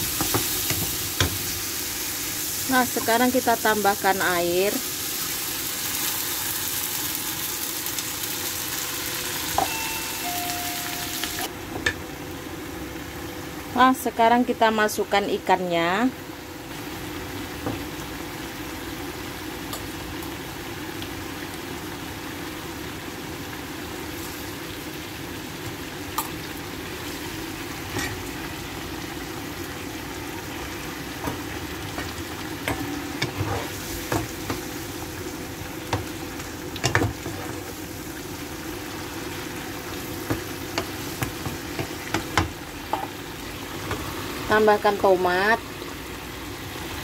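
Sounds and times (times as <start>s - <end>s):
sauce simmering in a frying pan: 0.0s - 15.4s, 16.1s - 47.0s.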